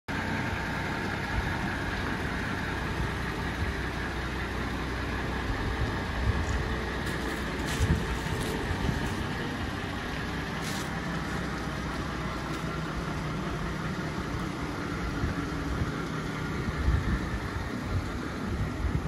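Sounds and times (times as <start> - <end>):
diesel truck engine idling: 0.1 - 19.0.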